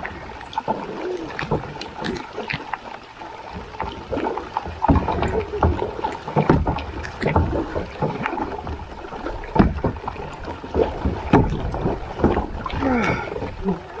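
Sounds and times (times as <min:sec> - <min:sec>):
paddle strokes splashing: 0:00.0 - 0:14.0.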